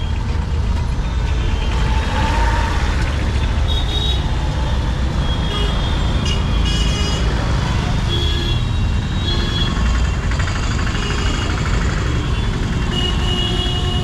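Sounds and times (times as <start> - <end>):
road noise: 0.0 - 14.0
traffic engine rumble: 0.0 - 14.0.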